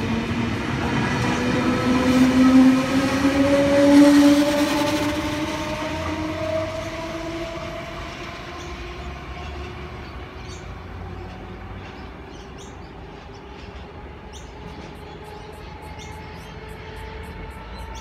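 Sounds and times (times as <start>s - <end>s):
electric train whine: 0.0s - 18.0s
train low rumble: 0.0s - 18.0s.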